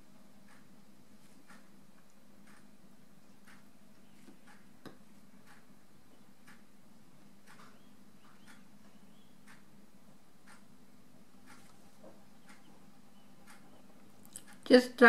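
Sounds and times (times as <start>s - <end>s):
steady low hum: 0.0s - 15.0s
clock ticking: 0.3s - 0.8s, 1.4s - 9.8s, 10.4s - 15.0s.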